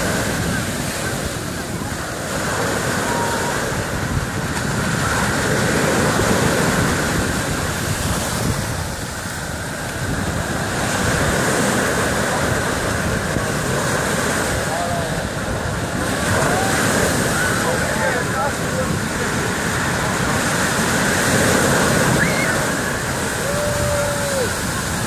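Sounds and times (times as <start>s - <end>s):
surf breaking on beach: 0.0s - 25.0s
wind blowing across microphone: 0.0s - 25.0s.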